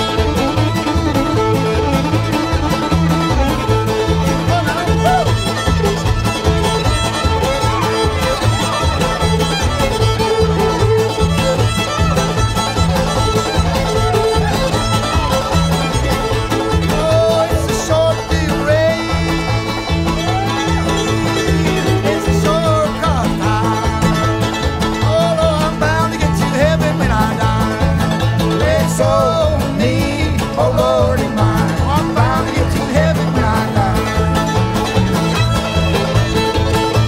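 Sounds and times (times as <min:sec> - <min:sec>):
banjo: 0:00.0 - 0:37.0
fiddle playing tune: 0:00.0 - 0:37.0
guitar: 0:00.0 - 0:37.0
upright bass: 0:00.0 - 0:37.0.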